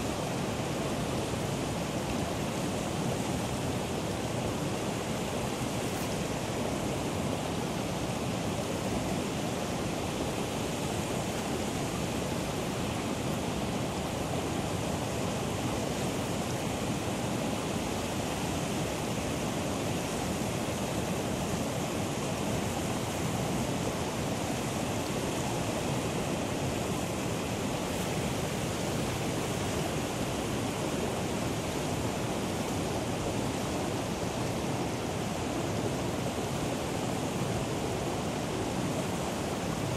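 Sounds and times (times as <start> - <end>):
geyser water and steam rushing: 0.0 - 39.9.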